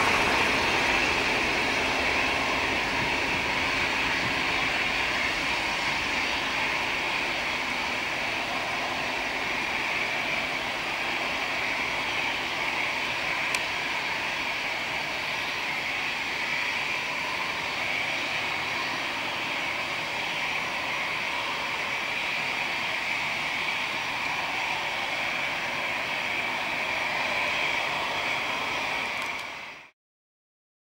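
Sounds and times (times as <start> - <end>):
jet engines roaring at takeoff: 0.0 - 29.9.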